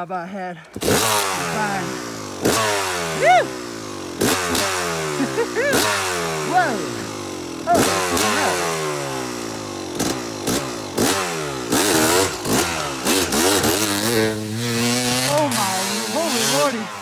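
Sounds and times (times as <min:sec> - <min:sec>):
dirt bike engine revving: 0:00.6 - 0:17.0.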